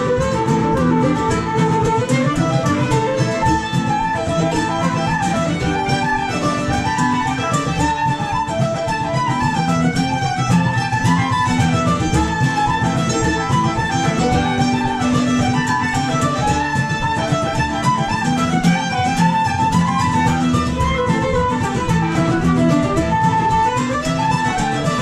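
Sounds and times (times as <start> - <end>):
mandolin rapidly picked: 0.0 - 25.0
string band playing lively tune: 0.0 - 25.0.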